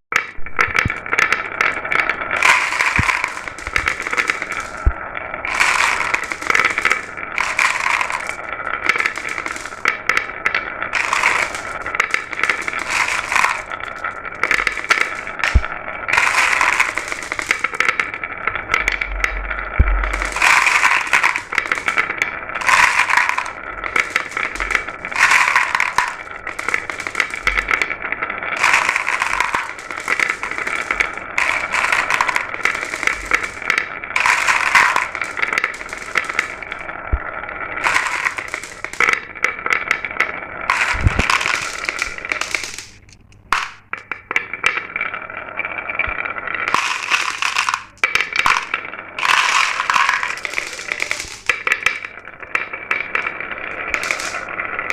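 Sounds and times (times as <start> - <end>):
glass marbles rattling down a run: 0.2 - 54.9.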